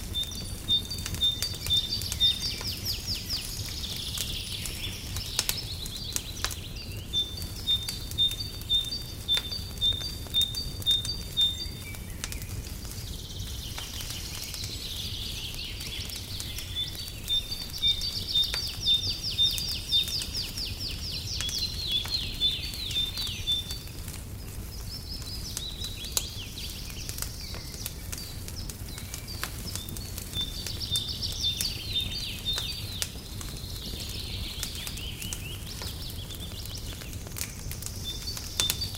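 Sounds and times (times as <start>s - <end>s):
songbirds singing: 0.0s - 38.9s
wood fire crackling: 0.0s - 38.9s.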